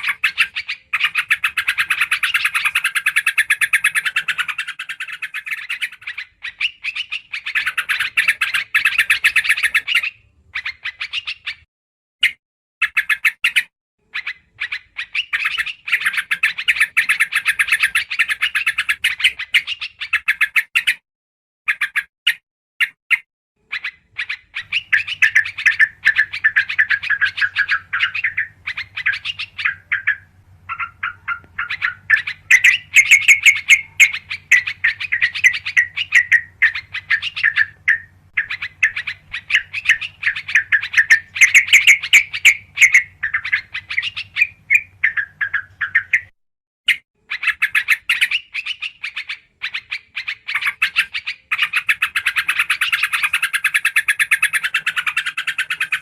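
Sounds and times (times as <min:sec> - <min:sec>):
bird chattering song: 0:00.0 - 0:21.0, 0:21.7 - 0:56.0.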